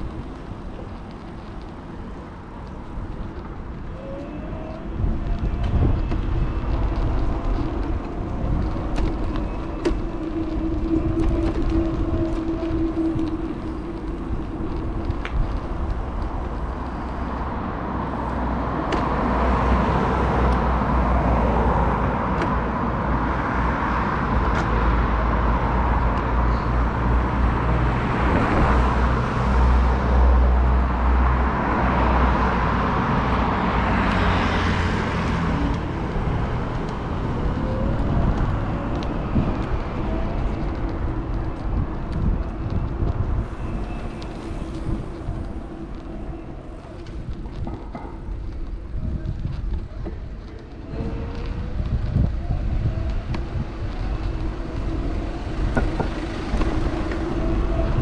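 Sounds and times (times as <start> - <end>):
road traffic passing: 0.0 - 58.0
wind rumbling on microphone: 0.0 - 58.0.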